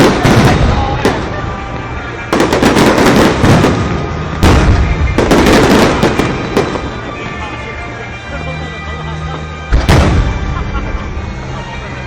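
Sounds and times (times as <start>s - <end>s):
fireworks bursting overhead: 0.0s - 7.8s, 9.7s - 11.8s.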